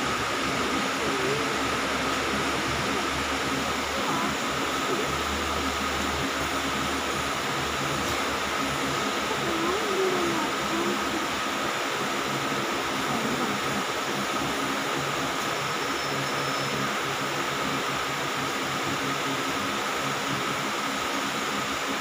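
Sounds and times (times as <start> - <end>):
faint high whine: 0.0 - 22.0
fans or air conditioning running: 0.0 - 22.0.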